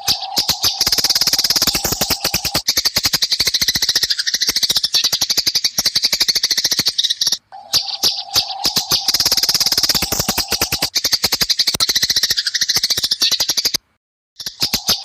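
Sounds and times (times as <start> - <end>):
sparrows chattering: 0.0 - 13.8, 14.4 - 15.0.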